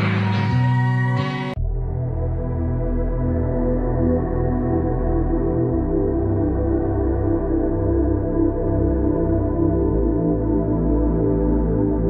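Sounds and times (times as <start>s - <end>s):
ambient music with held chords: 0.0s - 12.0s.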